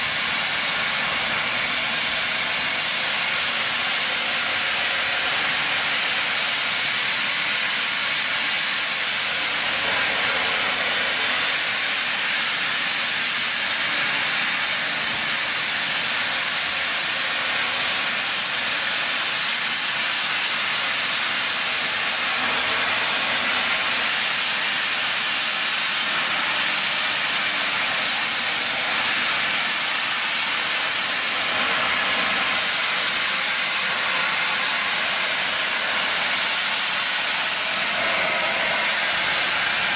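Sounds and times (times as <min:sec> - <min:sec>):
steam locomotive hissing: 0:00.0 - 0:39.9.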